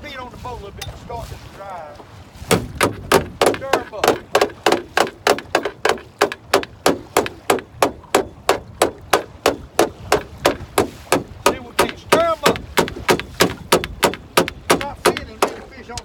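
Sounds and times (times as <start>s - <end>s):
knocking on metal boat hull: 2.4s - 16.0s.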